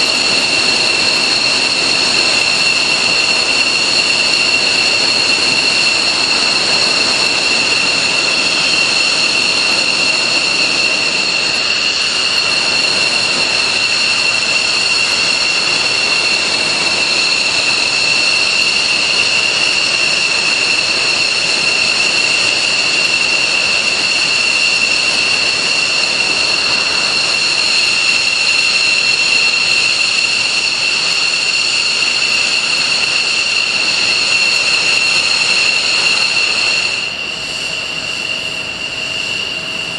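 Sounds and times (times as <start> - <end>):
jet engine idling whine: 0.0 - 39.9.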